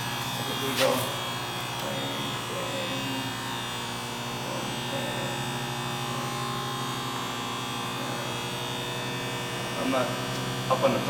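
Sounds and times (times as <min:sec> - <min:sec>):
hydraulic pump motor humming: 0:00.0 - 0:11.0.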